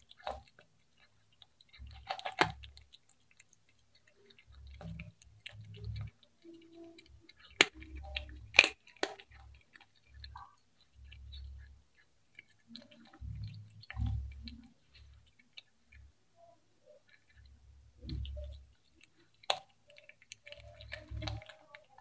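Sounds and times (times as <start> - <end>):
cat chewing wetly: 0.0 - 22.0.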